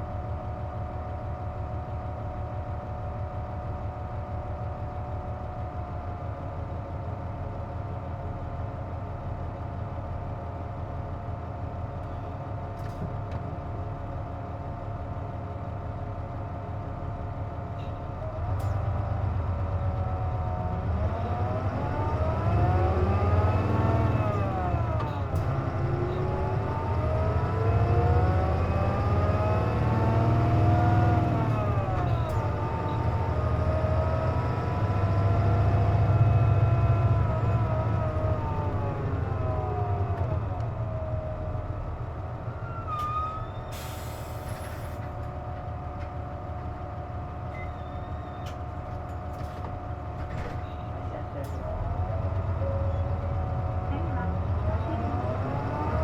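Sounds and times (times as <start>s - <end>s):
diesel bus engine: 0.0s - 56.0s.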